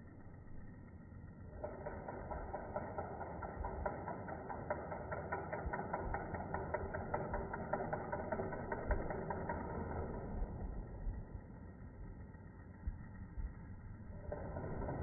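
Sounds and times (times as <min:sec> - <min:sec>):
low rumble: 0:00.0 - 0:15.0
rapid mechanical ticking: 0:01.4 - 0:15.0.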